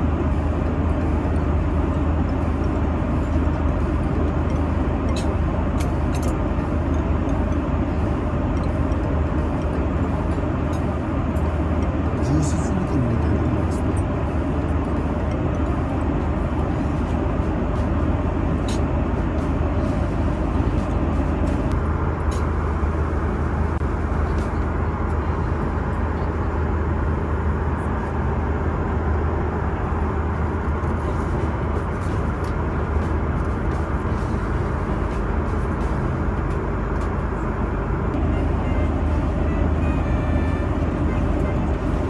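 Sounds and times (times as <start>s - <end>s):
airliner cabin drone: 0.0s - 42.0s.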